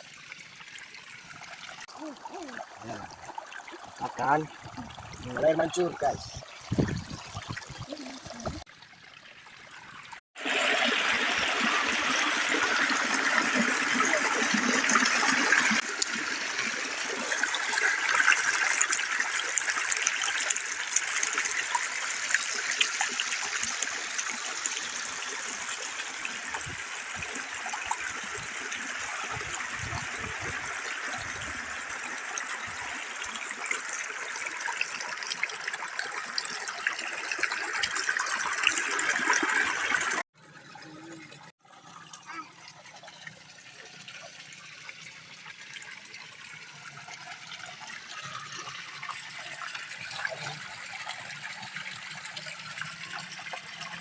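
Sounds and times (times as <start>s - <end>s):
water gushing: 0.0s - 54.0s.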